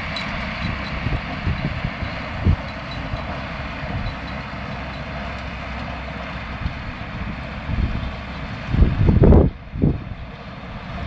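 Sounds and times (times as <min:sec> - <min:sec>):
diesel tractor running under load: 0:00.0 - 0:11.0.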